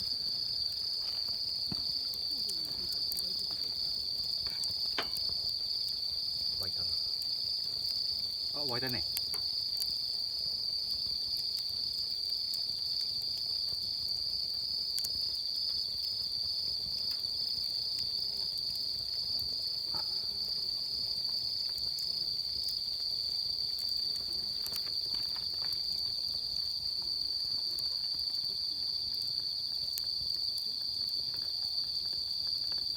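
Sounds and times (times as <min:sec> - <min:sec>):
crickets trilling: 0:00.0 - 0:32.9.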